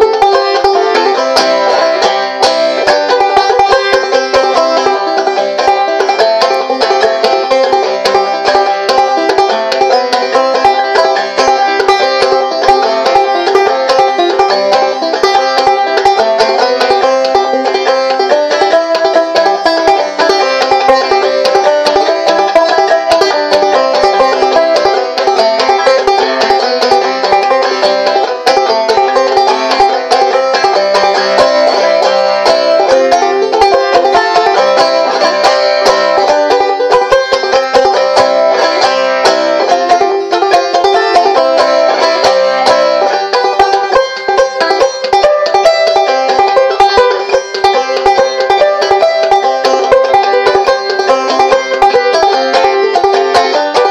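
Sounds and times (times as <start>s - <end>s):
banjo playing a fiddle tune: 0.0s - 53.9s.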